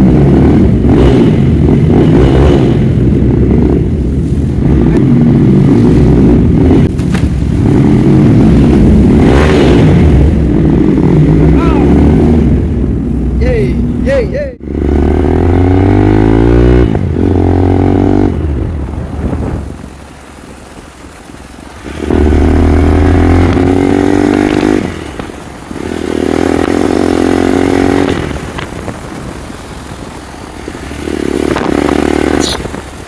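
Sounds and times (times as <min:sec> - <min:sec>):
motorcycle engine revving: 0:00.0 - 0:20.4, 0:21.0 - 0:33.0.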